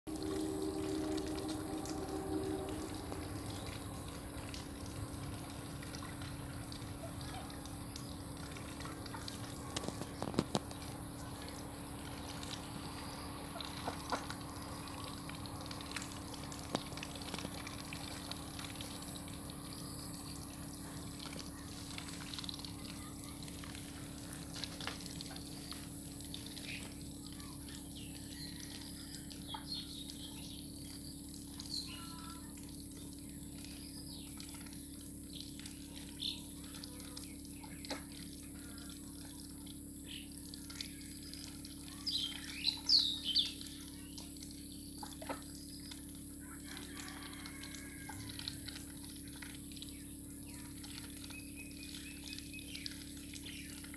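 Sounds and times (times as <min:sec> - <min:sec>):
ducks slurping wet feed: 0:00.1 - 0:53.9.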